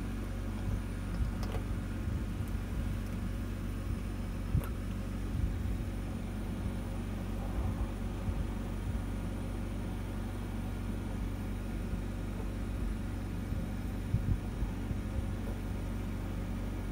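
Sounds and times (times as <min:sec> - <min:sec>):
dull low thumps: 0:00.0 - 0:16.1
low mechanical hum of machinery: 0:00.0 - 0:16.9.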